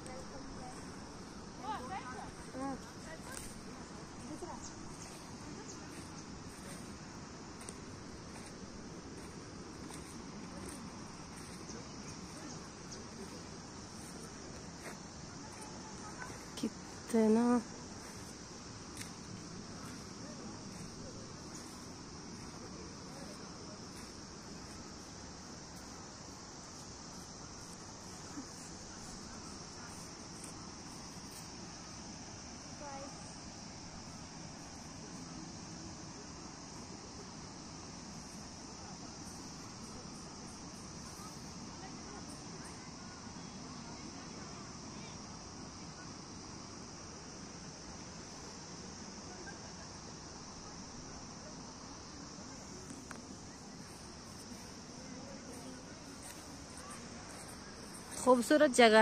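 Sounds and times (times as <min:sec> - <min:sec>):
faint low background noise: 0:00.0 - 0:59.0
high-pitched insect chorus: 0:00.0 - 0:59.0
low background hiss: 0:00.0 - 0:59.0.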